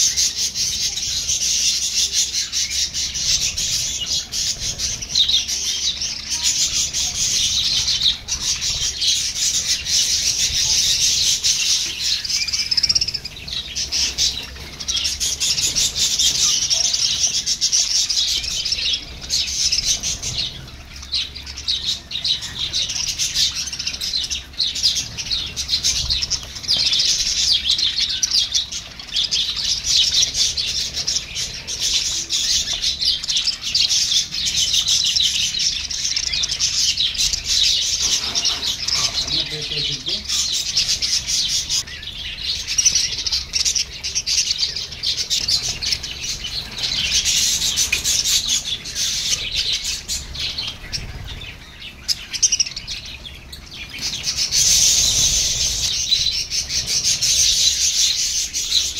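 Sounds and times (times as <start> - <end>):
budgerigars chattering: 0.0 - 58.9.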